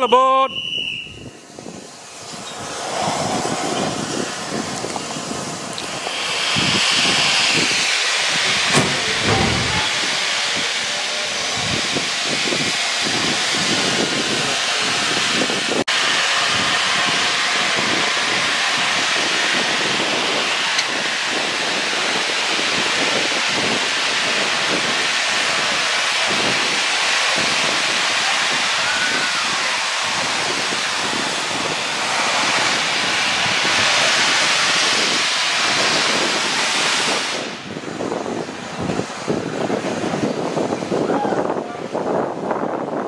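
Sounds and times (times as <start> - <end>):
steam hissing: 0.0 - 43.0.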